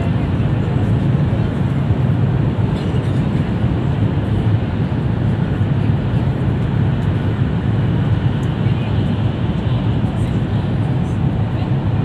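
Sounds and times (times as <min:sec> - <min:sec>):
train rumble inside passenger car: 0:00.0 - 0:12.0.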